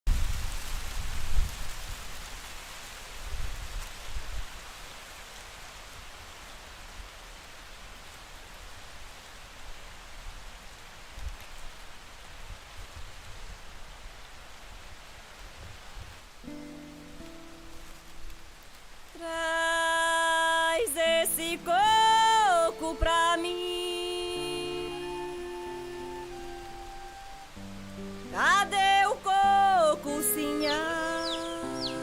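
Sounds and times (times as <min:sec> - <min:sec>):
steady rain falling: 0:00.1 - 0:32.0.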